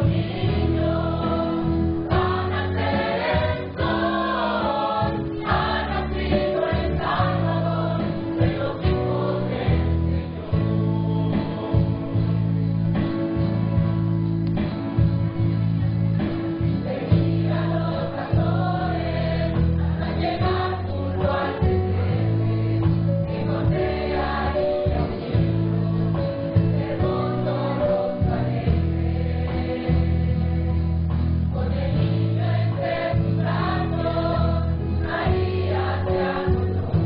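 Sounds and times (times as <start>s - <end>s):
choir singing: 0.0s - 12.4s, 16.8s - 37.0s
instrumental accompaniment: 0.0s - 37.0s.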